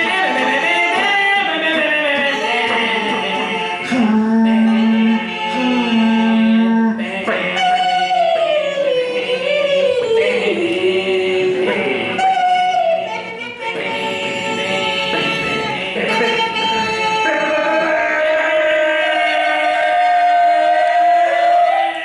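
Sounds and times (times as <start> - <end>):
person singing long sliding notes: 0.0 - 22.0.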